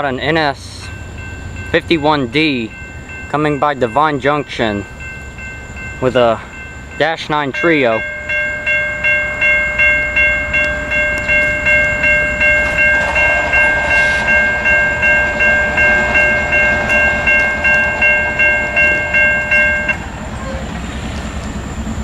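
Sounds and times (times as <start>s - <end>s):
crossing warning bell ringing: 0.0s - 22.0s
freight train rumbling: 0.0s - 22.0s.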